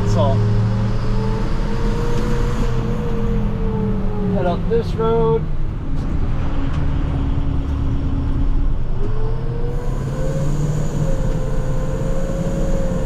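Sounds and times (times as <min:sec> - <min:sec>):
diesel truck engine drone: 0:00.0 - 0:13.0
engine whine: 0:00.0 - 0:13.0.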